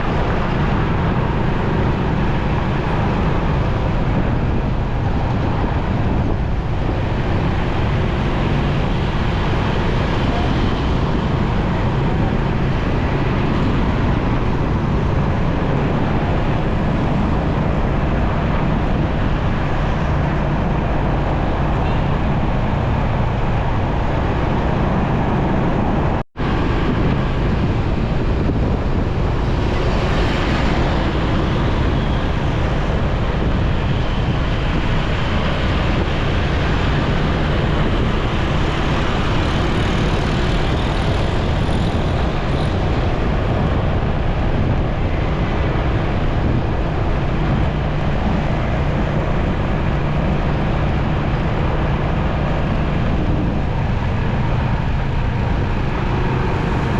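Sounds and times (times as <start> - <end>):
motorcycle engine and road noise: 0.0 - 56.9.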